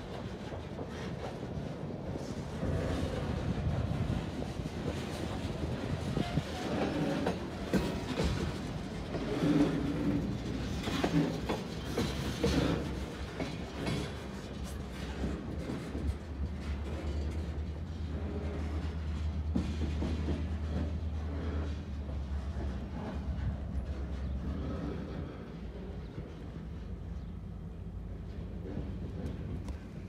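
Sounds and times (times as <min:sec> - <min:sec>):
low rumble of freight cars: 0:00.0 - 0:30.0
train wheel squeals: 0:00.0 - 0:30.0.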